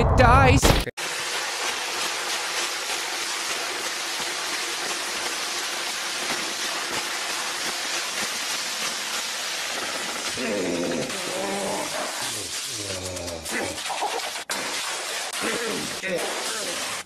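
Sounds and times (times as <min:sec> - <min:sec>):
water spraying and churning: 0:01.0 - 0:17.0.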